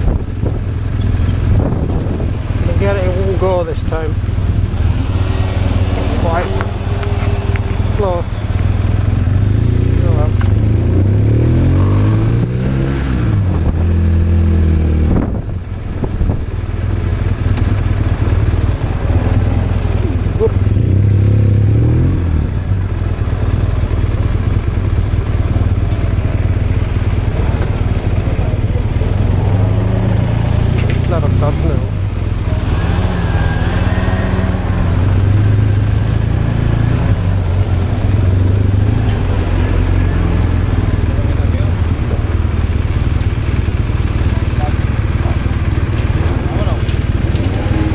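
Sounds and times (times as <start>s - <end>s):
motorcycle engine running: 0.0s - 33.2s, 33.8s - 47.9s.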